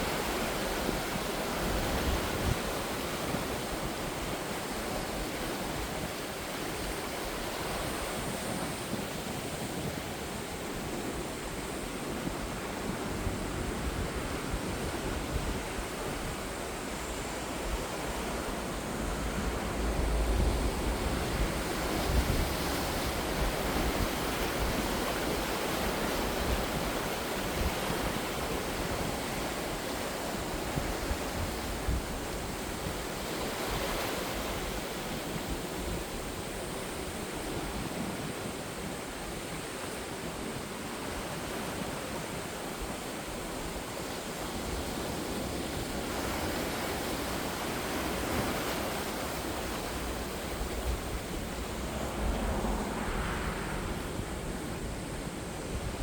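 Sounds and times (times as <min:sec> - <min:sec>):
sea waves breaking on shore: 0:00.0 - 0:56.0.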